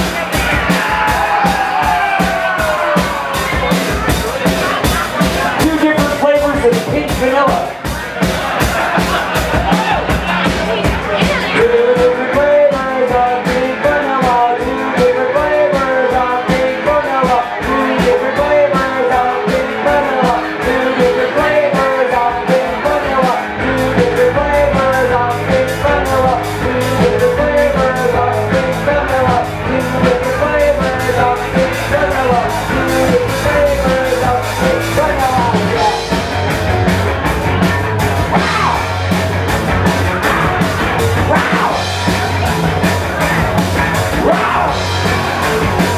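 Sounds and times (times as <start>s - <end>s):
electric bass: 0.0s - 45.9s
fast driving drums: 0.0s - 45.9s.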